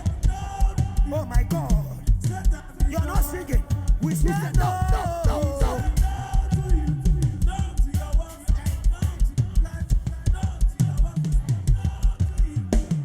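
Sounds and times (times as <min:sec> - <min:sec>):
pulsing low bass beat: 0:00.0 - 0:13.0
rapid drum strikes: 0:00.0 - 0:13.0.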